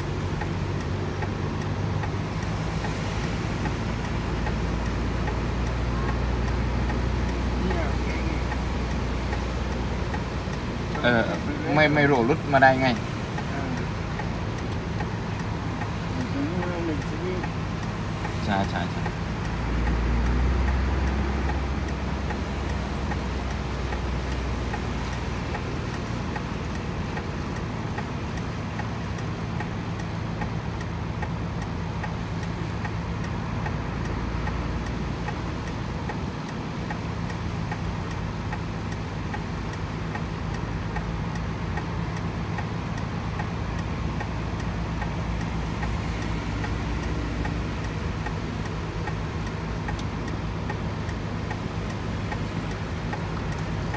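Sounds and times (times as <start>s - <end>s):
faint regular ticking: 0.0s - 53.9s
vehicle engine humming: 0.0s - 53.9s.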